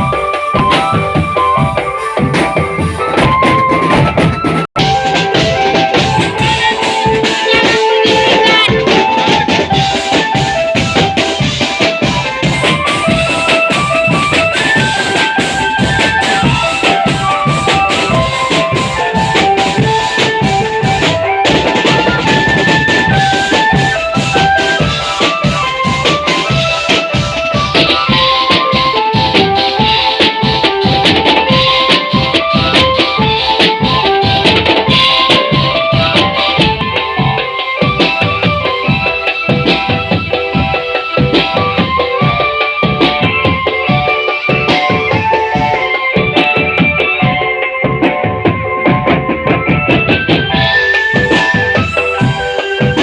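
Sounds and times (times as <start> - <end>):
marching drum band playing: 0.0 - 53.0.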